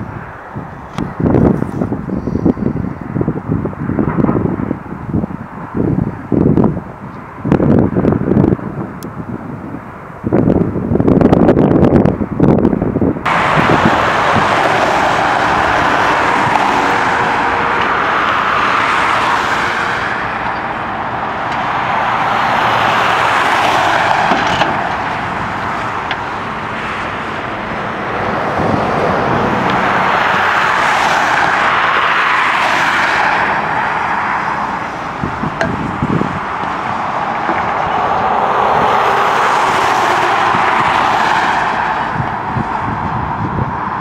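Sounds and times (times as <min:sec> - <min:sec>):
highway traffic passing: 0:00.0 - 0:44.0.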